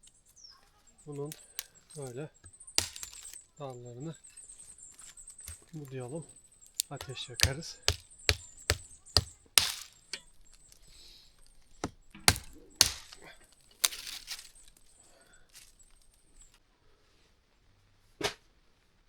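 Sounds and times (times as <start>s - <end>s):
branches rustling: 0.0s - 16.6s
dry branches snapping: 0.0s - 16.6s.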